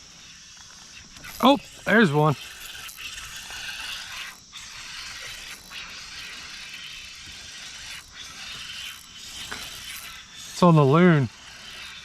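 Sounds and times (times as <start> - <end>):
fishing reel whirring: 0.0 - 12.0.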